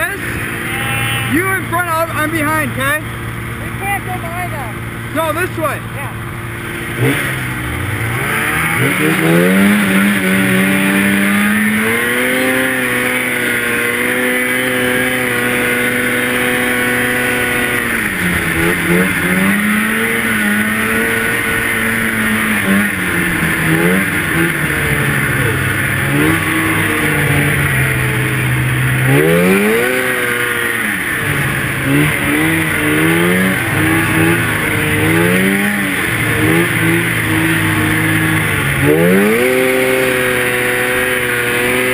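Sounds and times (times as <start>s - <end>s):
snowmobile engine revving: 0.0s - 41.9s.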